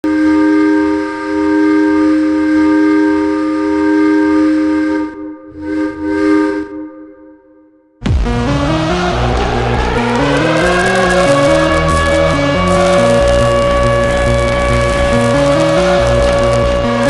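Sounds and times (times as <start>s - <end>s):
goal horn blasting: 0.0s - 17.0s.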